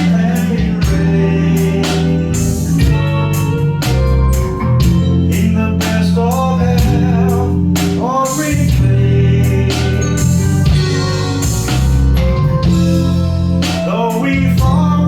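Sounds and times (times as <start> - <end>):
bass guitar: 0.0 - 15.0
drum kit steady beat: 0.0 - 15.0
electric guitar: 0.0 - 15.0
keyboards: 0.0 - 15.0.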